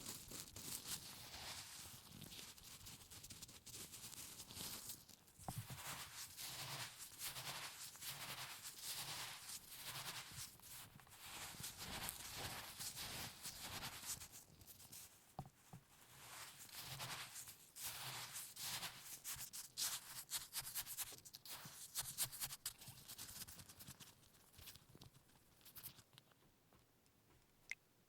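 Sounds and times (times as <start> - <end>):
hands rubbing cooking ingredients: 0.0 - 26.1.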